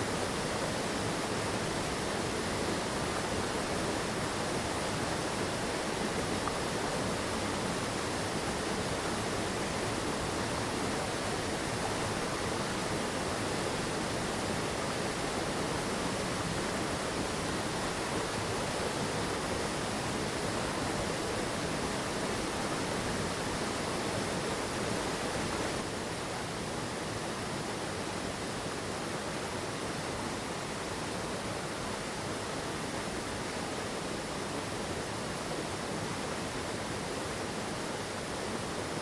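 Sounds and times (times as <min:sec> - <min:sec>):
stream rushing over rocks: 0:00.0 - 0:39.0.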